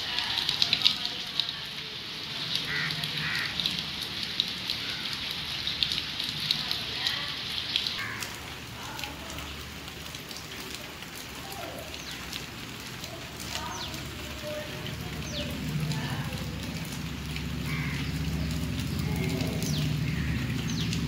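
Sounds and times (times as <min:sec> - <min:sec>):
rain on leaves and roofs: 0:00.0 - 0:21.0.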